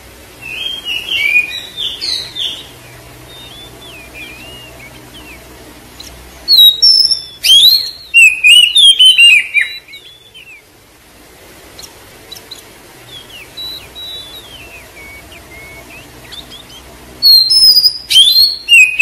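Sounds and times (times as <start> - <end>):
bird whistles and chirps: 0.4 - 10.7, 11.8 - 19.0.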